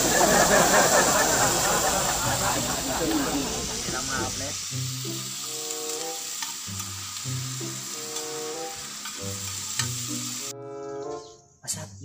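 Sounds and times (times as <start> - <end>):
meat sizzling in hot oil: 0.0 - 10.5
background music melody: 0.0 - 12.0.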